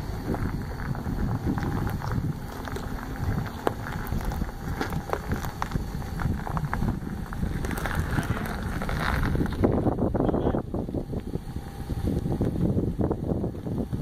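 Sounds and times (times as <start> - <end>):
truck rolling on gravel: 0.0 - 14.0
wind buffeting microphone: 0.0 - 14.0.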